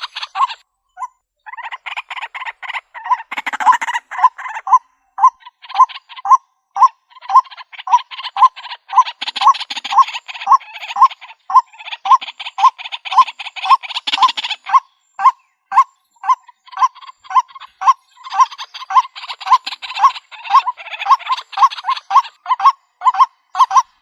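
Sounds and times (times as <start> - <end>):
waterhen harsh calls: 0.0 - 0.6, 1.5 - 24.0.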